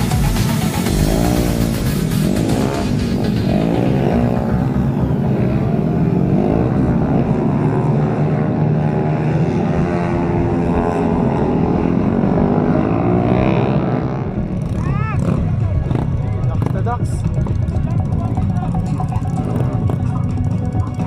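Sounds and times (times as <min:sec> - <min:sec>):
motorcycle engines droning: 0:00.0 - 0:21.0.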